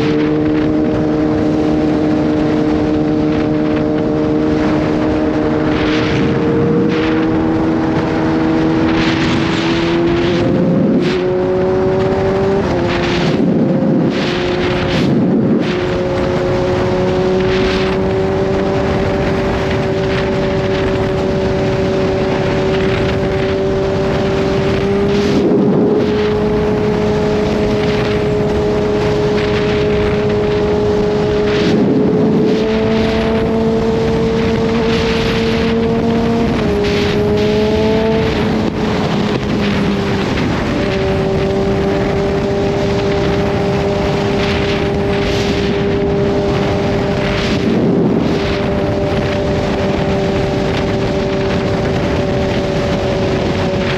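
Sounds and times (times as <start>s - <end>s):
motorcycle engine cruising: 0.0s - 53.9s
road noise: 0.0s - 53.9s
wind rushing: 0.0s - 53.9s.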